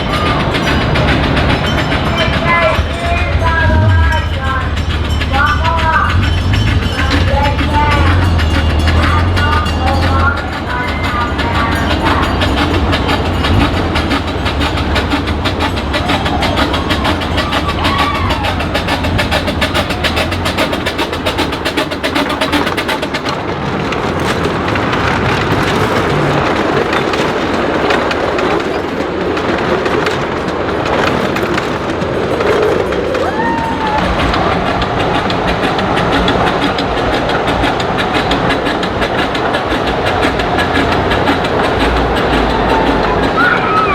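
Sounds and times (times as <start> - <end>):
steam train rhythmic beats: 0.0 - 43.9.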